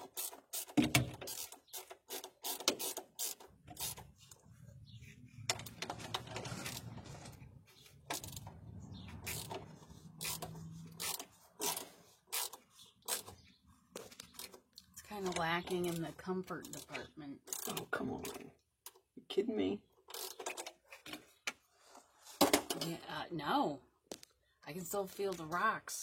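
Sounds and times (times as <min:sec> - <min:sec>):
clicks rattles and scraping: 0:00.0 - 0:19.1, 0:20.0 - 0:23.0.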